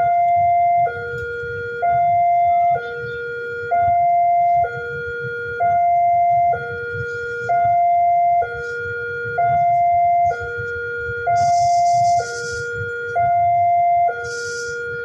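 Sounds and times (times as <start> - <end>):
level-crossing alarm two-tone signal: 0.0 - 15.0.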